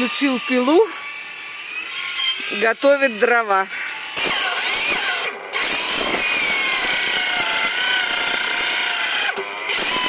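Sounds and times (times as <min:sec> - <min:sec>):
power saw cutting wood: 0:00.0 - 0:10.0.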